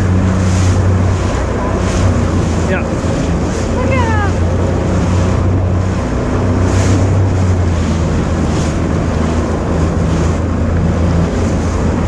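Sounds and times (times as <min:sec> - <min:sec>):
water splashing against hull: 0:00.0 - 0:12.0
watercraft engine running: 0:00.0 - 0:12.0
wind buffeting microphone: 0:00.0 - 0:12.0.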